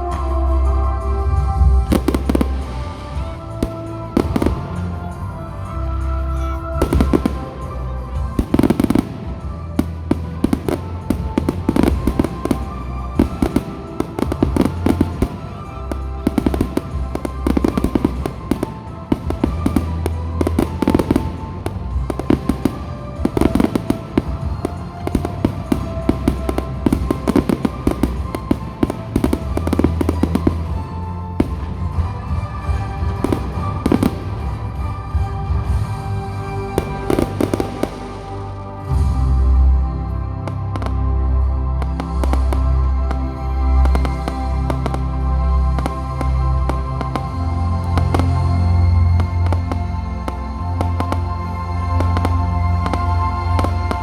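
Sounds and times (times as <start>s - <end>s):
fireworks bursting and crackling: 0.0s - 54.0s
music playing: 0.0s - 54.0s.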